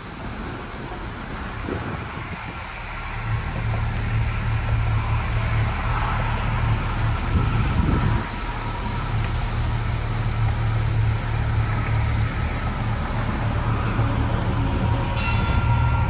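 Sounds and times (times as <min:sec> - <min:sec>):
even hiss: 0:00.0 - 0:16.0
low mechanical hum: 0:00.0 - 0:16.0.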